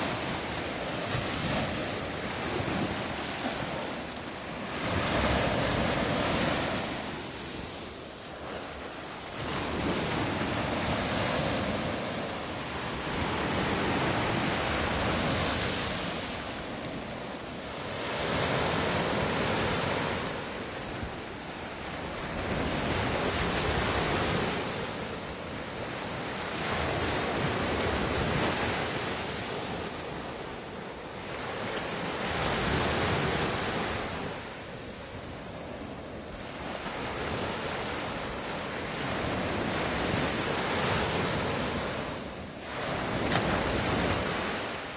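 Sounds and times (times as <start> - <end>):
sea waves breaking: 0.0 - 44.9.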